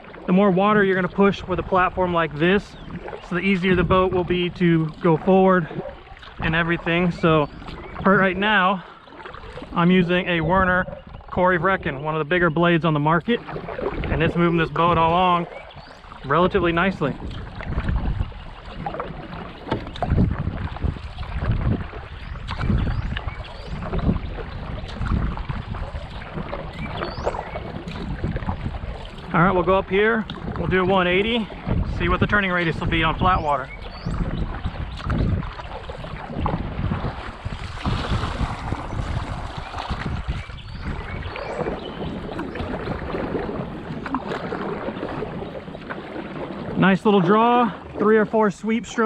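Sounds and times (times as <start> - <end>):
paddle strokes through water: 0.0 - 49.0
wind buffeting microphone: 0.0 - 49.0.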